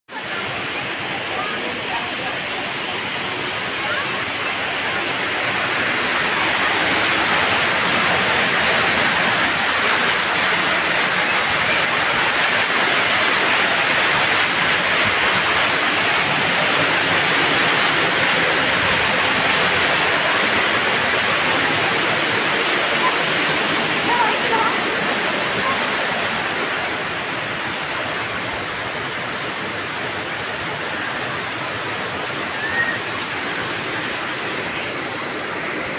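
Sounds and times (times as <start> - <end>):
waterfall splashing into pond: 0.2 - 35.9.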